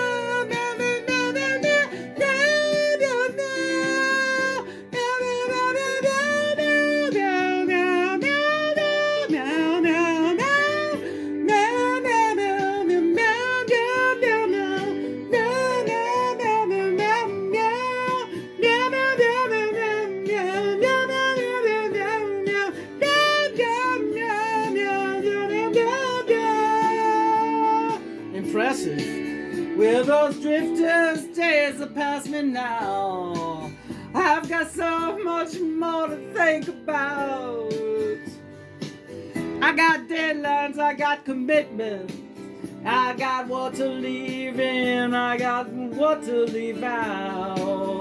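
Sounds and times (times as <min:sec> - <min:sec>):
acoustic guitar playing: 0:00.0 - 0:48.0
person singing wordless melody: 0:00.0 - 0:48.0.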